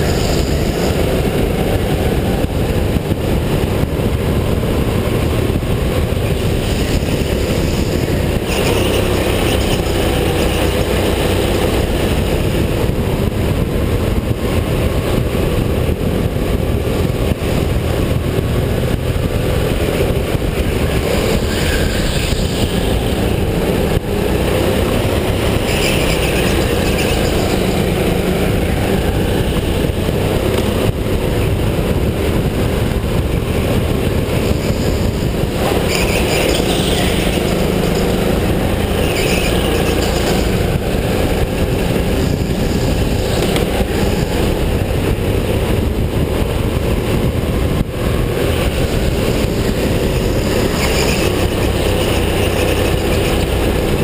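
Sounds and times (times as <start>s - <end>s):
go-kart engine: 0.0s - 54.0s.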